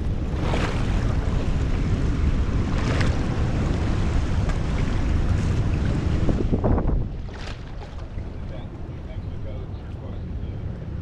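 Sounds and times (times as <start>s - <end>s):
water sloshing and splashing: 0.0s - 9.1s
wind buffeting microphone: 0.0s - 11.0s.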